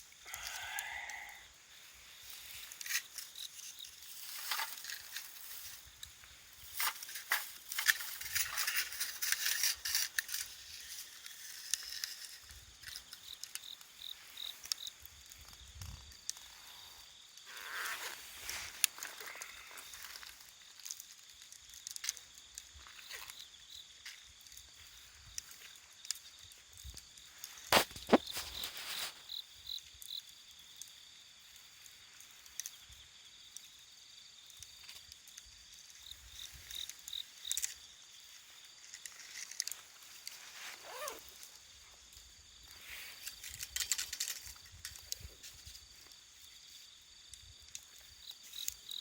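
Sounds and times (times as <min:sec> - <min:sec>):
wood fire crackling: 0:00.0 - 0:40.4.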